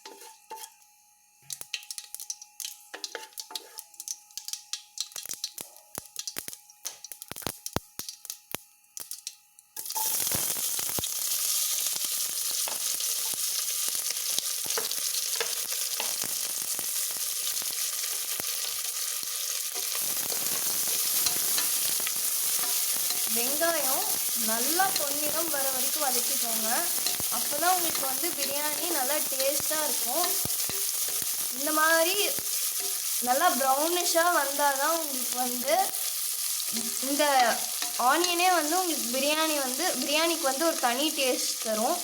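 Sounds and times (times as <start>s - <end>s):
onions sizzling in a pan: 0.0s - 42.0s
hot oil popping: 1.4s - 42.0s.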